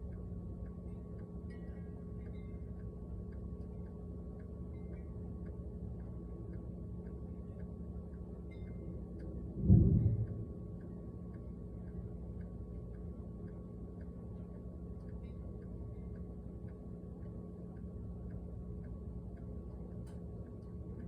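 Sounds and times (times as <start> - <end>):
electrical hum: 0.0 - 21.0
faint regular ticking: 0.0 - 21.0.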